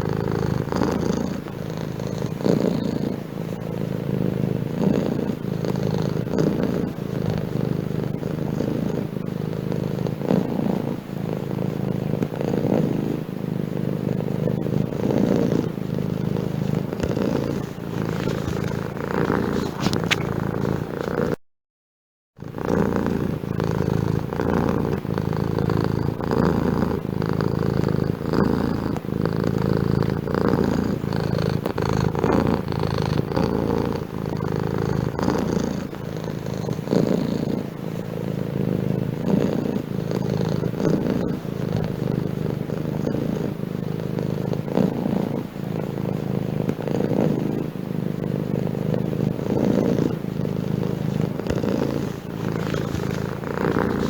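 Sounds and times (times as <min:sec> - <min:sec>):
cat purring: 0:00.0 - 0:21.4, 0:22.4 - 0:54.0.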